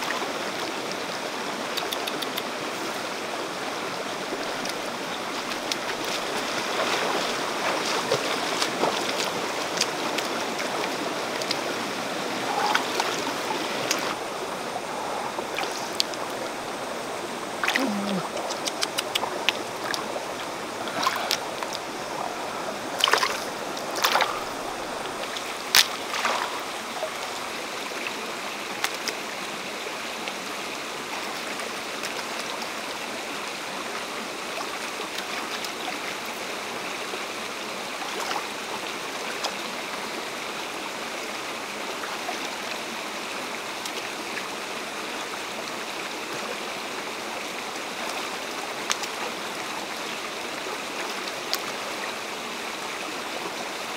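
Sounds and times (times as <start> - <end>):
stream flowing over rocks: 0.0 - 53.9.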